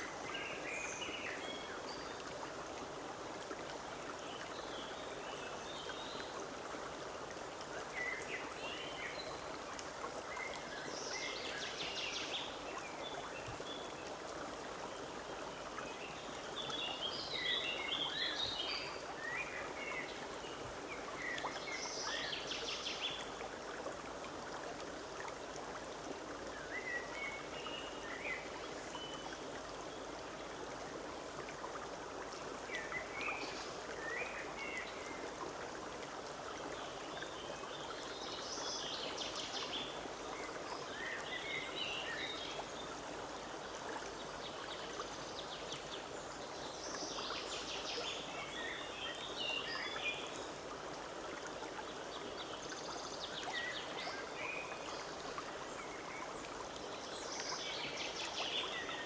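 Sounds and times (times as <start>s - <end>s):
forest stream running: 0.0s - 59.0s.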